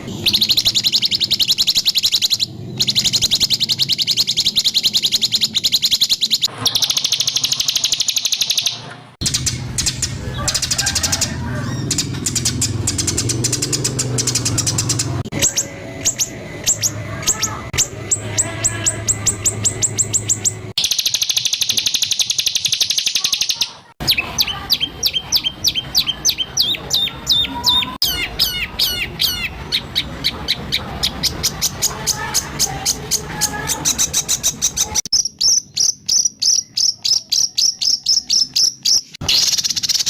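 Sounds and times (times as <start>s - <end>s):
songbird song: 0.0s - 40.0s.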